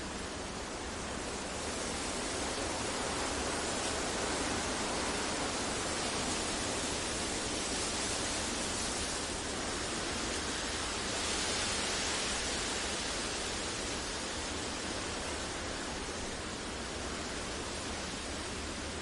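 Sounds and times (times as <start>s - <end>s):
smooth steady hiss: 0.0s - 19.0s.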